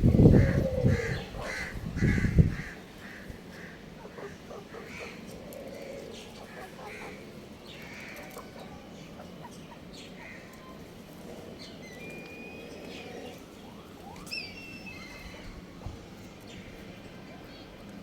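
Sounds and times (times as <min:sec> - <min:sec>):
birds calling: 0:00.0 - 0:17.8
steady background hum: 0:00.0 - 0:18.0.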